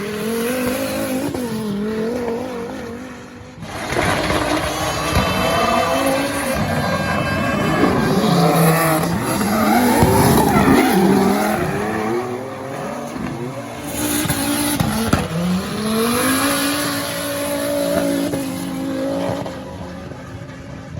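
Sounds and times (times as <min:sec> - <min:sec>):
car engine revving: 0:00.0 - 0:20.9.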